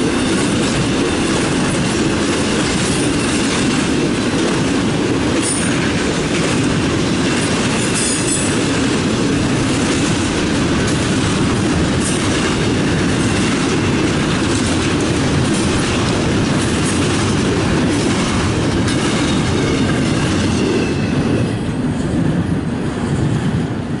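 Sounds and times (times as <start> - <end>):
steel wheels clacking over rail joints: 0.0 - 23.5
train rumbling past: 0.0 - 24.0.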